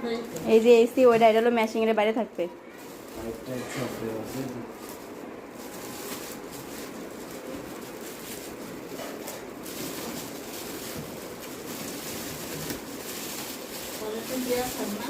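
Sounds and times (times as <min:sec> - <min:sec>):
air conditioner fan rushing: 0:00.0 - 0:15.0.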